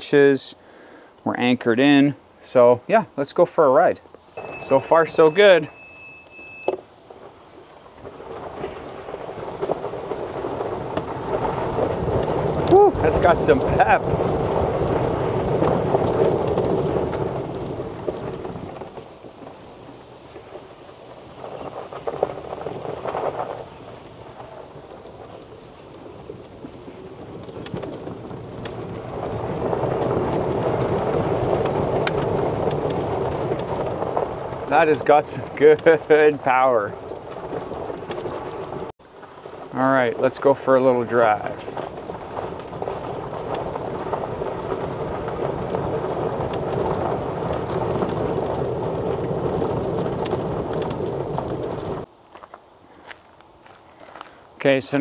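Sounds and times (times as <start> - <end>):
tyres crunching on gravel: 1.2 - 55.0
golf cart driving: 3.7 - 55.0.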